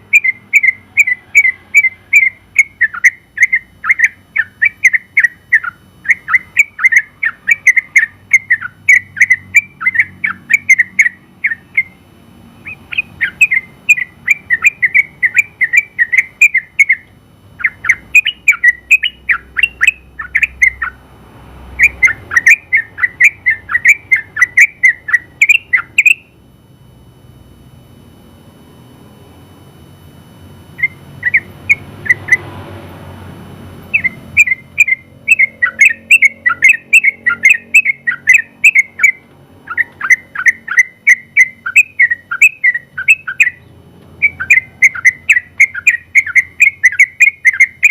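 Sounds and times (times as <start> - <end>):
bird chirping song: 0.0 - 21.0, 21.7 - 26.4, 30.7 - 32.9, 33.8 - 47.9.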